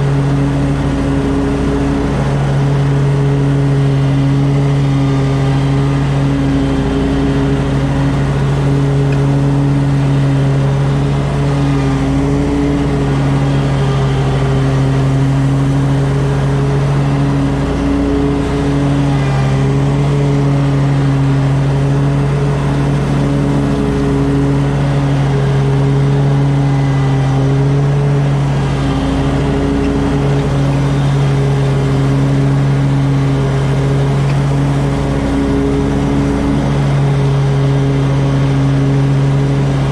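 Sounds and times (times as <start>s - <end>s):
lawn mower engine mowing grass: 0.0s - 39.9s.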